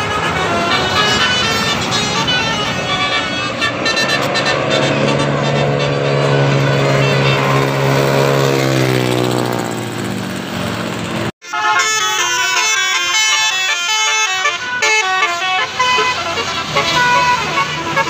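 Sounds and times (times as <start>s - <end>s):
multi-tone bus horn melody: 0.0s - 9.0s, 11.4s - 18.0s
bus engine running loudly: 0.0s - 11.4s, 12.0s - 18.0s.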